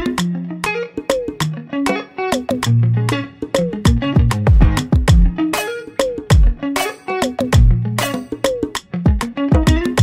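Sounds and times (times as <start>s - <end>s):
plucked notes over bass and beat: 0.0s - 10.0s.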